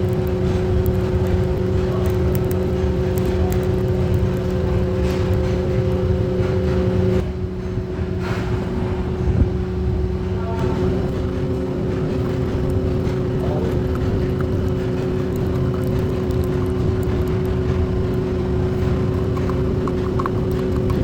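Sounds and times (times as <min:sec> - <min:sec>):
machine rumbling and humming: 0:00.0 - 0:21.0.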